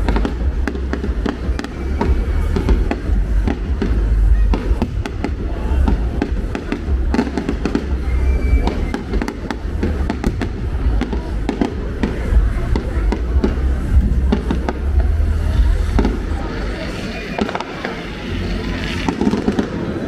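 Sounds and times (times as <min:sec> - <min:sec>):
deep rumble: 0:00.0 - 0:17.1
fireworks bangs and crackles: 0:00.0 - 0:20.0.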